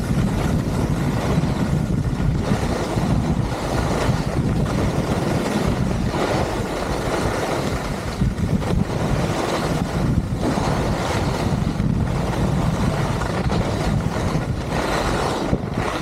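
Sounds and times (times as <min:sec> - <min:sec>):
skis sliding over snow: 0:00.0 - 0:16.0
wind buffeting microphone: 0:00.0 - 0:16.0.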